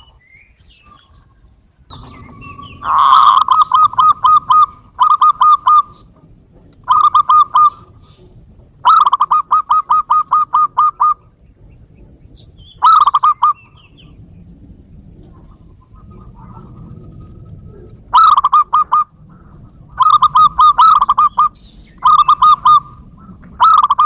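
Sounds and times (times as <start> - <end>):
dove cooing in staccato bursts: 1.9 - 24.0.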